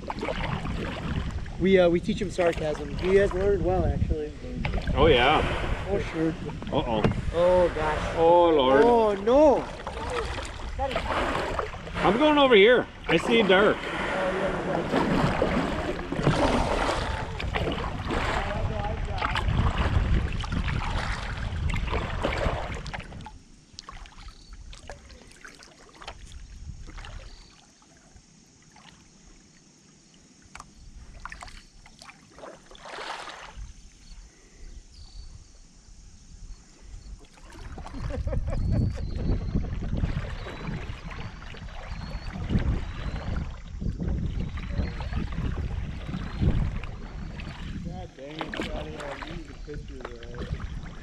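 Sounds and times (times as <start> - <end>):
low rumbling microphone noise: 0.0 - 23.6, 33.5 - 51.0
paddle splashing water: 0.0 - 34.6, 36.9 - 51.0.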